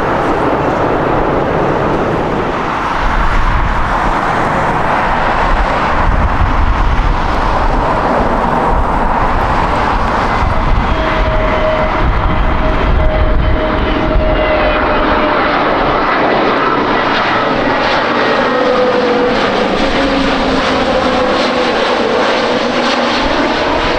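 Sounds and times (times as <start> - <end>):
high aircraft engine whine: 0.0 - 23.9
jet airliner engine noise: 0.0 - 23.9.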